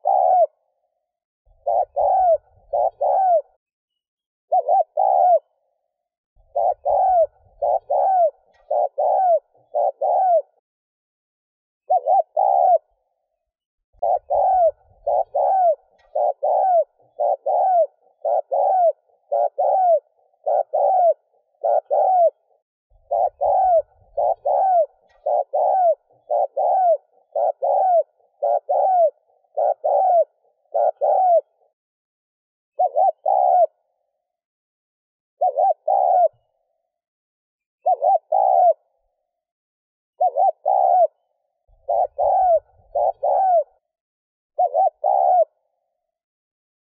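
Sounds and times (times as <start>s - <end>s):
dove cooing: 0.0s - 3.6s, 4.5s - 10.6s, 11.8s - 13.4s, 14.0s - 31.8s, 32.7s - 34.3s, 35.4s - 36.9s, 37.8s - 39.2s, 40.2s - 44.0s, 44.6s - 46.1s.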